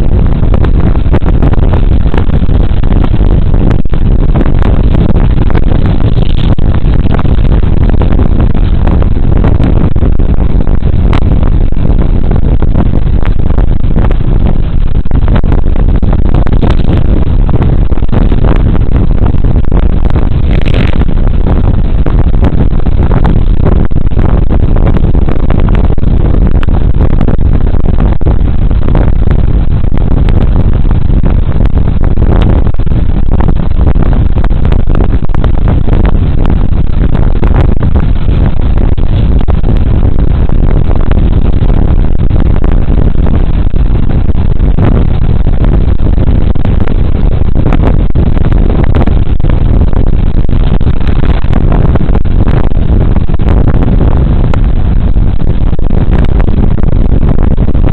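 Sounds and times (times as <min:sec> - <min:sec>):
wind buffets: 0:00.0 - 0:57.9
wind rush: 0:00.0 - 0:57.9.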